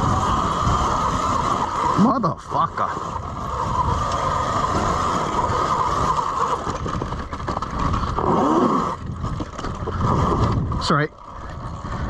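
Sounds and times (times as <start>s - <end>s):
electric motor whine: 0.0s - 12.0s
tyres on dirt: 0.0s - 12.0s
wind: 0.0s - 12.0s.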